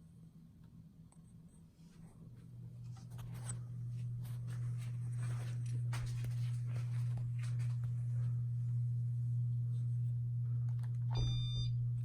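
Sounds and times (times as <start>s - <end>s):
ceiling fan motor humming: 0.0s - 12.0s.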